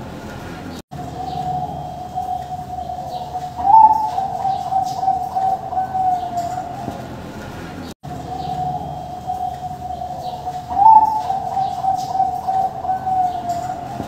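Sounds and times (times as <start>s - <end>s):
doves cooing: 1.0s - 14.0s.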